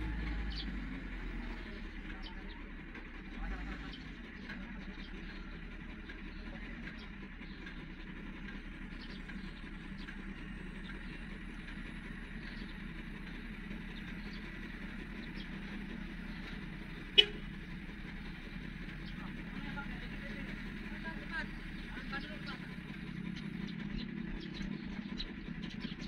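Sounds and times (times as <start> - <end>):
distant diesel engine humming: 0.0 - 26.0.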